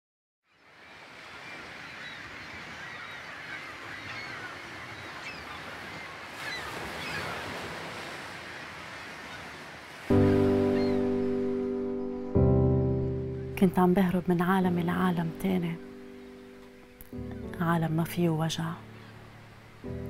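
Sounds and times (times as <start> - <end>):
seabirds calling: 0.5 - 20.0
sea surf washing: 0.6 - 20.0.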